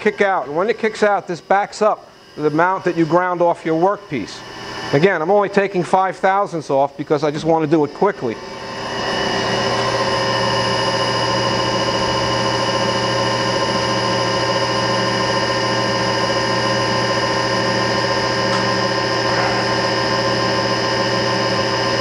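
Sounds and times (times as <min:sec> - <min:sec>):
grinding machine whine: 0:00.0 - 0:22.0.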